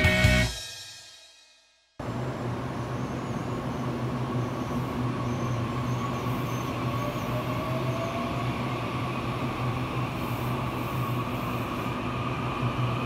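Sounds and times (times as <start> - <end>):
train low rumble: 2.0 - 13.0.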